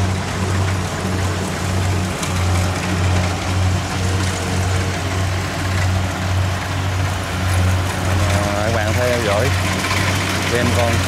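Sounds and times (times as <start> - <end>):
combine harvester engine and machinery: 0.0 - 11.0.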